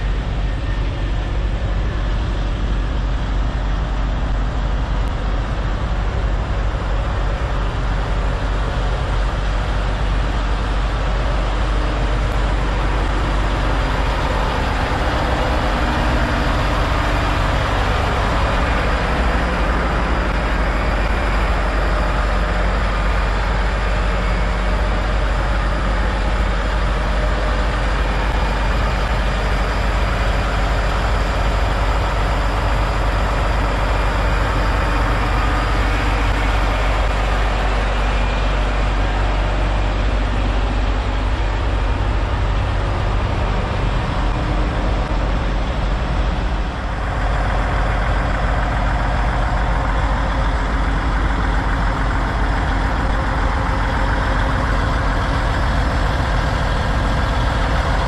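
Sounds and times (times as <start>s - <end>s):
diesel truck engines idling: 0.0s - 58.0s.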